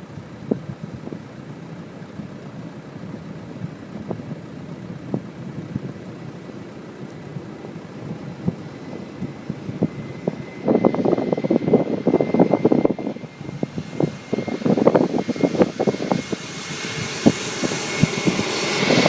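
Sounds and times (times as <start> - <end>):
aircraft engine whine: 0.0 - 19.0
wind buffeting microphone: 0.0 - 19.0.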